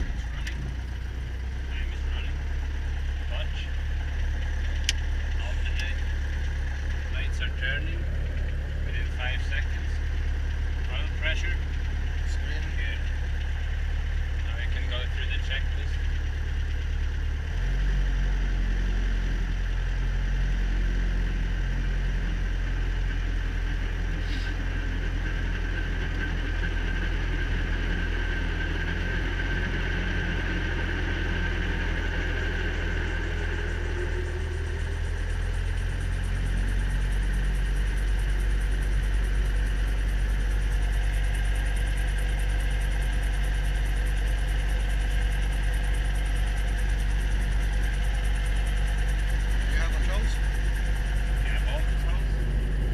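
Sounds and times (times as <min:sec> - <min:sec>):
helicopter piston engine running: 0:00.0 - 0:52.9.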